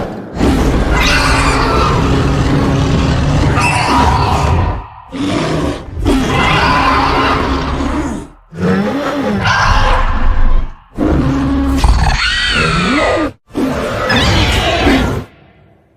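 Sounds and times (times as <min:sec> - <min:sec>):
monster roaring and growling: 0:00.3 - 0:15.3.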